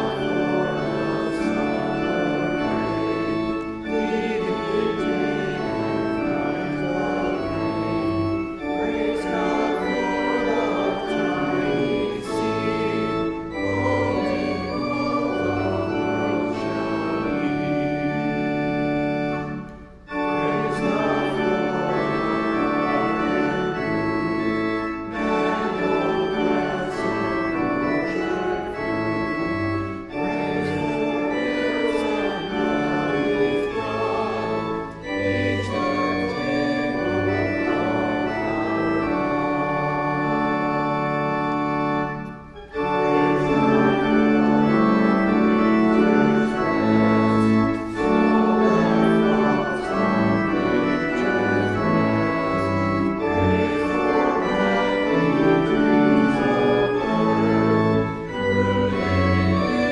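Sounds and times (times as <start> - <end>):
small choir singing: 0.0 - 40.8, 42.0 - 59.9
pipe organ playing a hymn: 0.0 - 59.9.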